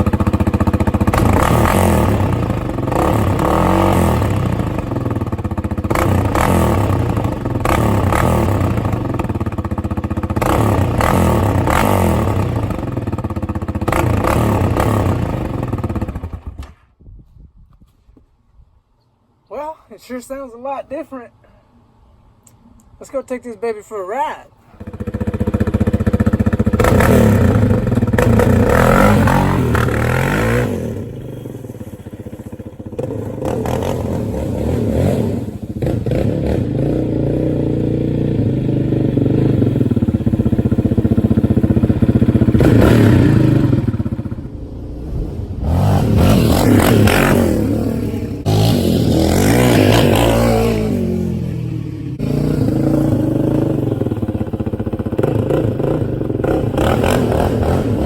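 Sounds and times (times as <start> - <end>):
atv engine revving: 0.0 - 16.8, 24.6 - 58.0.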